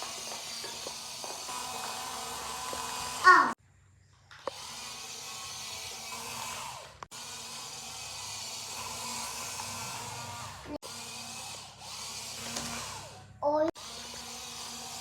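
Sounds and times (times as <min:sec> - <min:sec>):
toy electric motor whining: 0:00.0 - 0:03.6, 0:04.3 - 0:15.0.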